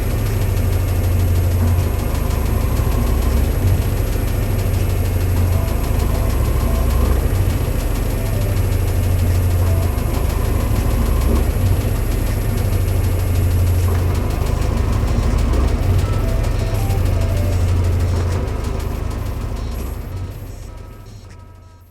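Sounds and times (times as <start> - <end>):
washing machine motor hum: 0.0 - 21.9
faint high whining tones: 1.4 - 21.9.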